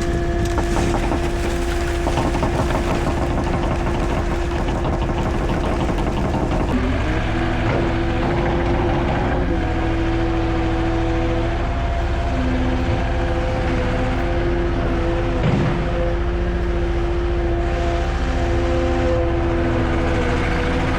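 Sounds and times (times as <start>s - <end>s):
heavy vehicle engine running: 0.0s - 20.9s
held whining tones: 0.0s - 20.9s.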